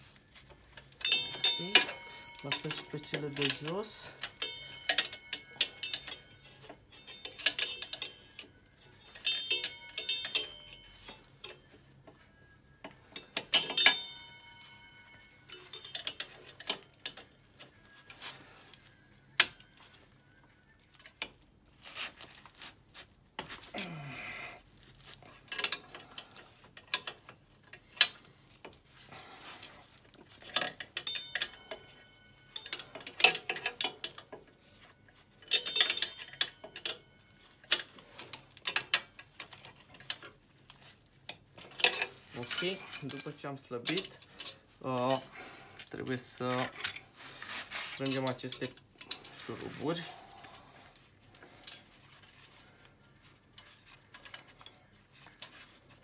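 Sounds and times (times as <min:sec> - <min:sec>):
metal tools clinking: 0:00.7 - 0:11.9, 0:13.0 - 0:20.1, 0:25.0 - 0:28.3, 0:30.2 - 0:40.9, 0:41.6 - 0:56.0.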